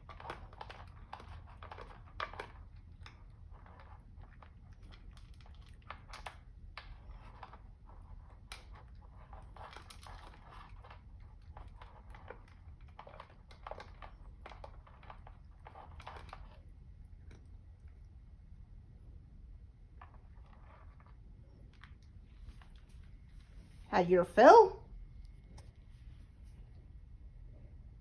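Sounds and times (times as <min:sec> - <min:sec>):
cat crunching dry kibble: 0:00.0 - 0:23.4.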